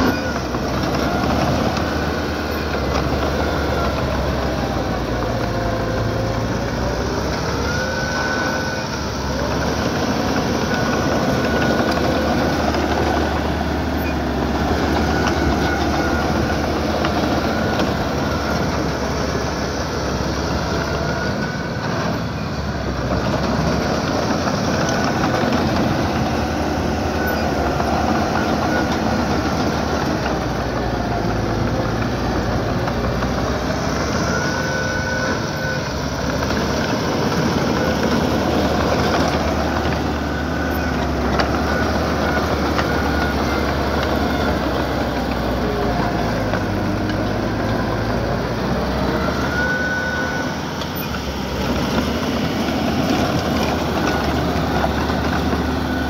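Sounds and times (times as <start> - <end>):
bulldozer diesel engine: 0.0 - 56.0
steel tracks squealing and clanking: 0.0 - 56.0.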